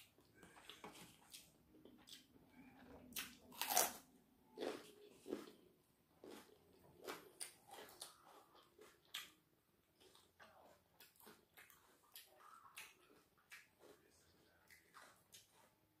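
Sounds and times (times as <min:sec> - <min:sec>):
person chewing with mouth smacks: 0:00.0 - 0:05.6, 0:06.2 - 0:15.8.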